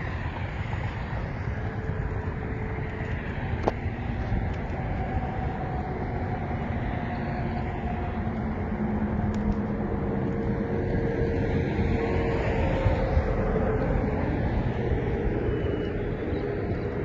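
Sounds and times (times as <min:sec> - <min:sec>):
motor vehicles rumbling: 0:00.0 - 0:17.0
passing engine hums: 0:00.0 - 0:17.0.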